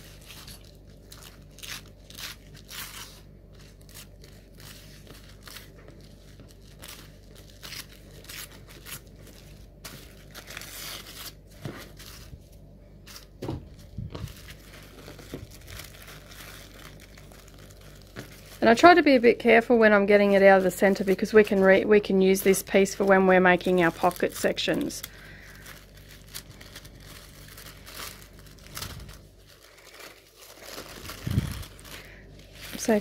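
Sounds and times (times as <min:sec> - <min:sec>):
tissue paper tearing: 0:00.0 - 0:19.1, 0:23.0 - 0:33.0
paper crinkling: 0:00.0 - 0:33.0.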